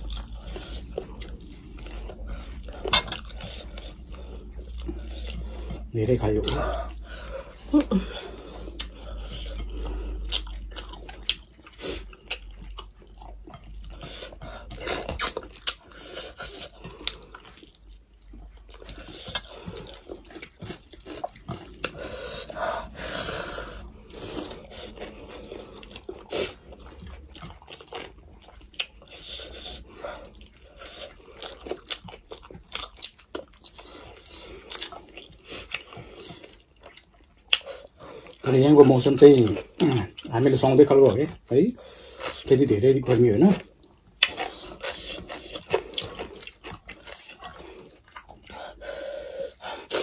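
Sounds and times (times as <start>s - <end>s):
wet smacking chewing: 0.0s - 42.7s, 43.4s - 50.0s
food squishing: 0.0s - 48.9s.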